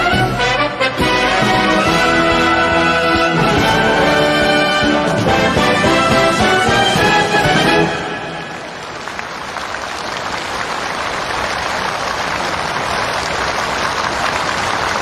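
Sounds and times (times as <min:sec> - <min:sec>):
large crowd applauding: 0:01.6 - 0:15.0.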